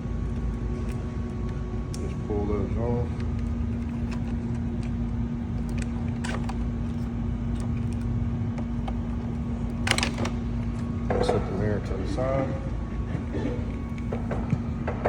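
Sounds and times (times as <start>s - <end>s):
constant hum: 0.0s - 15.0s
steady low rumble: 0.0s - 15.0s.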